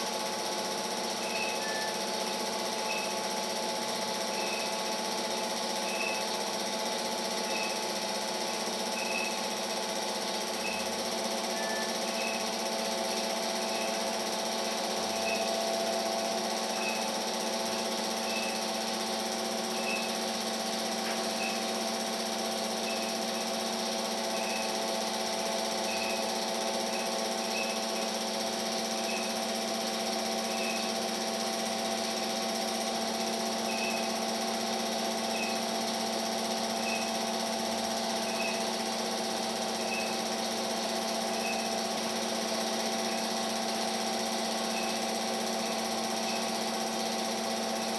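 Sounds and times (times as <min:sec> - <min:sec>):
small motor humming: 0:00.0 - 0:47.9.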